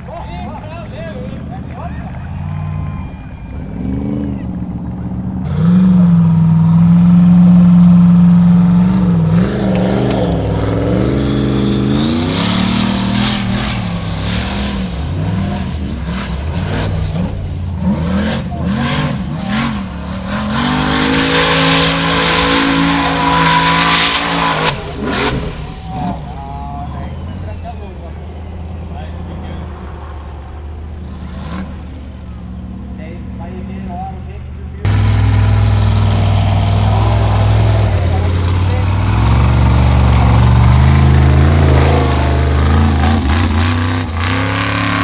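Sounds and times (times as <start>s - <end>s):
buggy engine revving: 0.0s - 45.0s.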